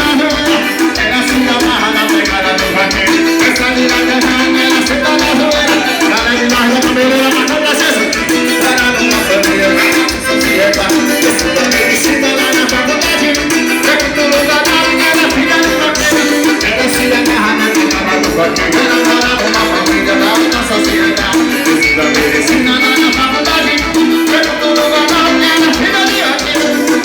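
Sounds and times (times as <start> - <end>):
loud dance music: 0.0 - 27.0.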